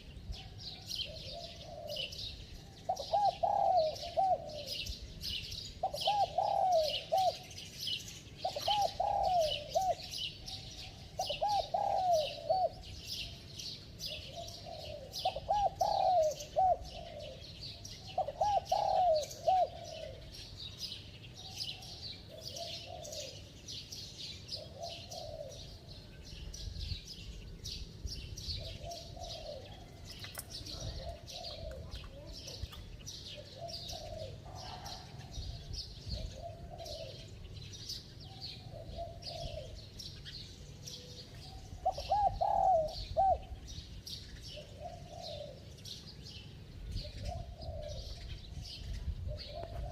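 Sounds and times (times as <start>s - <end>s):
small birds chirping: 0.0s - 49.9s
dove cooing: 0.4s - 20.7s, 21.4s - 26.2s, 28.4s - 43.7s, 44.4s - 46.1s, 46.9s - 49.9s.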